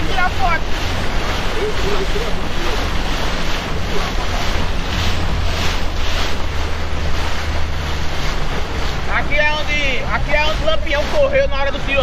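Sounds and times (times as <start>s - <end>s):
speedboat engine drone: 0.0s - 12.0s
water rushing and spray: 0.0s - 12.0s
wind buffeting microphone: 0.0s - 12.0s.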